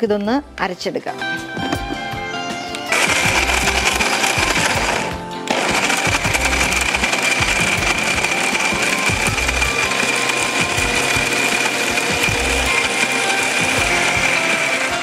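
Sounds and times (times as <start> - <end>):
mixer grinder whining: 2.8 - 15.0.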